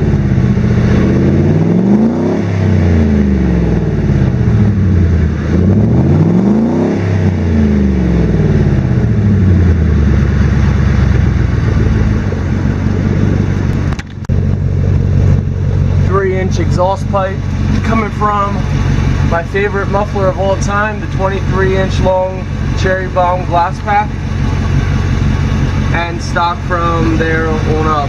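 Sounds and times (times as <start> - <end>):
truck engine revving and idling: 0.0 - 28.0.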